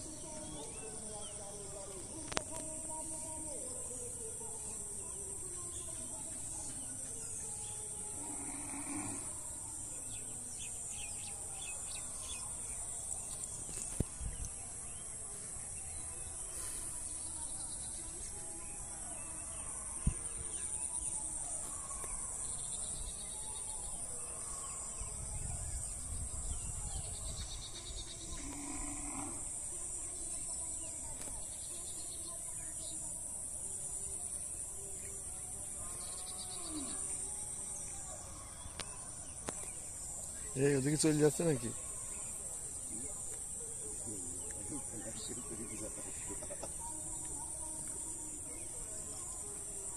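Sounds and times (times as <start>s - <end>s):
insects droning: 0.0s - 49.9s.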